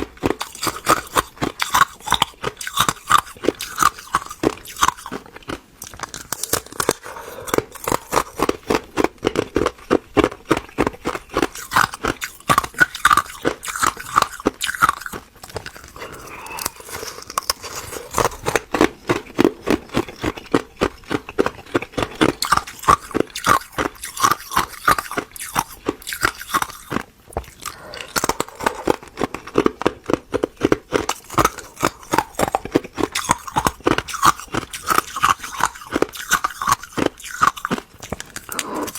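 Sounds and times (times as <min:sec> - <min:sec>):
ice crunching in mouth: 0:00.0 - 0:38.9.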